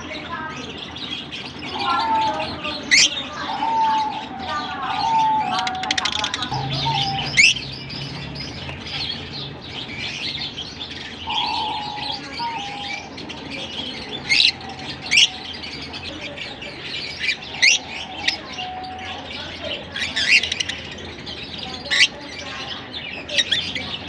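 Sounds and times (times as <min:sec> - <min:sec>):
birds chattering with quick chirps: 0:00.0 - 0:24.0
birds shrieking sharply: 0:00.3 - 0:24.0.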